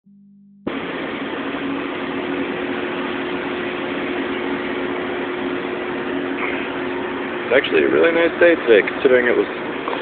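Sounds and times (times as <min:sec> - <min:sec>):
constant low hum: 0:00.1 - 0:10.0
mechanical rush of machinery: 0:00.7 - 0:10.0.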